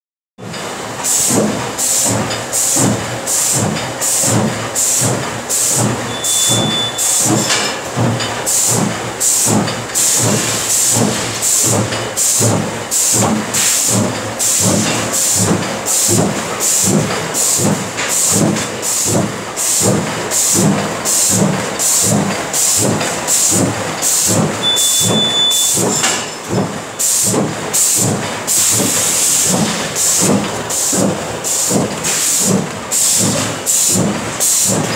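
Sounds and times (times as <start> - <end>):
machine rapid clatter: 0.4 - 34.9.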